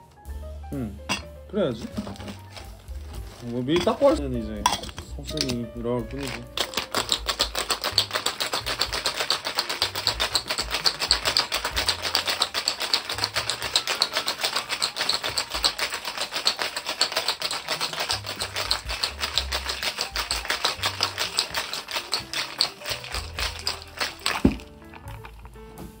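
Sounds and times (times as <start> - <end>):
ice rattling in cocktail shaker: 1.1 - 25.6.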